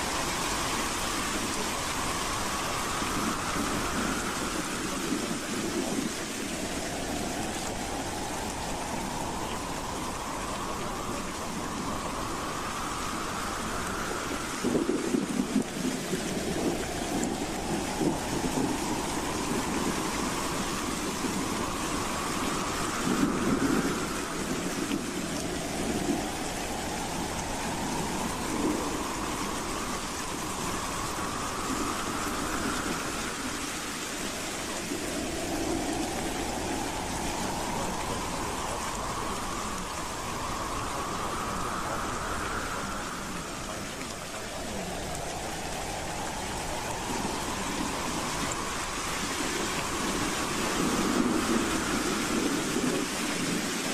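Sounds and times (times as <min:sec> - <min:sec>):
howling wind: 0:00.0 - 0:53.9
steady rushing hiss: 0:00.0 - 0:53.9.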